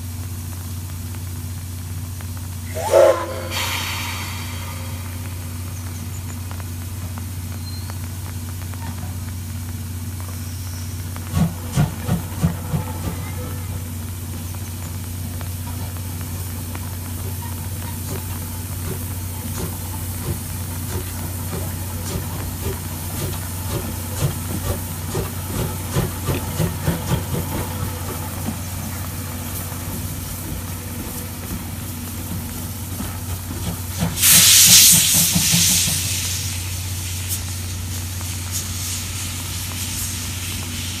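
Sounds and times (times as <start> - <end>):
steam locomotive exhaust chuffs: 0.3 - 41.0
loud steam hiss: 2.6 - 7.4, 10.0 - 41.0.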